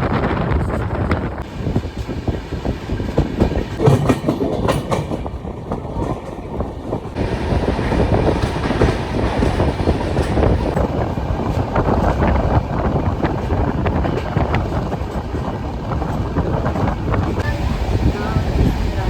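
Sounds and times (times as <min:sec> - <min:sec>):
train rumble: 0:00.0 - 0:19.0
train wheels clattering over rail joints: 0:00.9 - 0:17.4.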